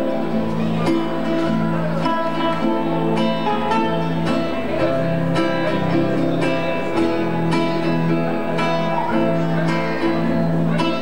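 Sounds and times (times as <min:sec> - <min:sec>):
plucked acoustic guitar music: 0:00.0 - 0:11.0.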